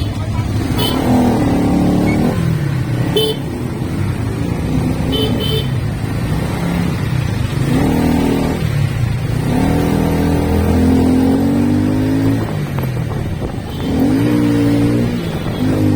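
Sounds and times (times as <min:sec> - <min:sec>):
motorcycle engine accelerating: 0:00.0 - 0:15.9.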